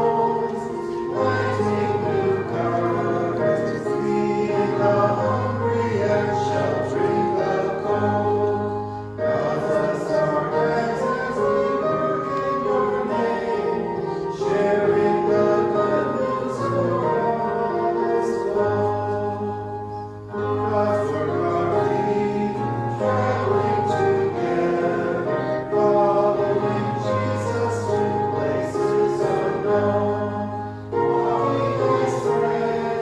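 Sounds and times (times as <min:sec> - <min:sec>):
instrumental accompaniment: 0:00.0 - 0:33.0
voices singing a hymn: 0:00.0 - 0:33.0.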